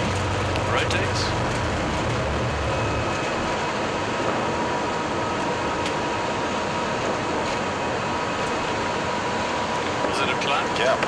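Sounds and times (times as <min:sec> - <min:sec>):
engine and airflow rush: 0:00.0 - 0:11.0
faint whine: 0:00.0 - 0:11.0.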